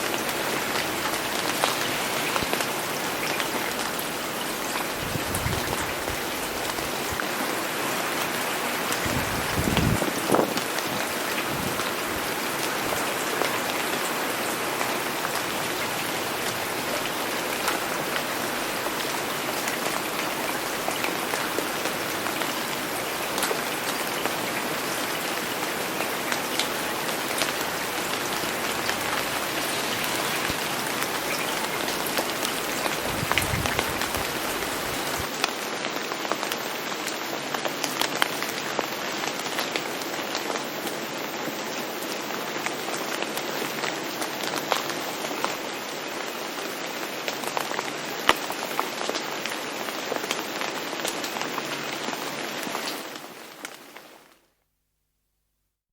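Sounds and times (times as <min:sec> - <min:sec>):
steady rain falling: 0:00.0 - 0:54.7.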